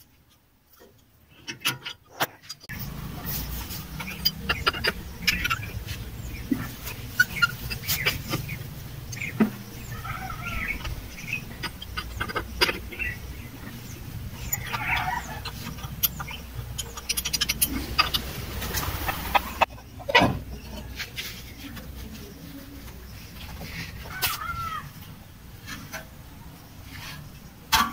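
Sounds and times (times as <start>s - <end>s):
hen clucking: 1.5s - 25.0s.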